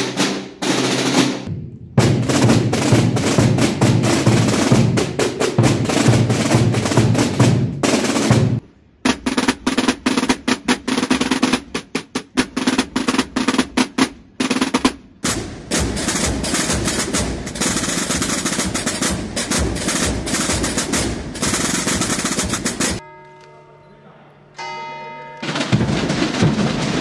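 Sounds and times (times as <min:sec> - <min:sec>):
drums beaten with sticks: 0:00.0 - 0:23.0, 0:25.4 - 0:27.0.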